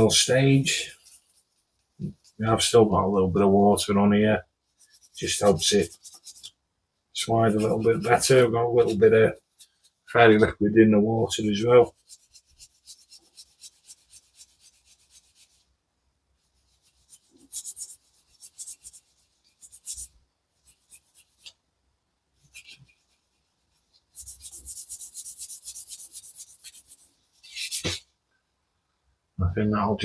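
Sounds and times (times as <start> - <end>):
plastic rubbed on polishing block: 0.0 - 6.6, 7.2 - 10.5, 11.2 - 15.7, 16.4 - 21.6, 22.4 - 28.1.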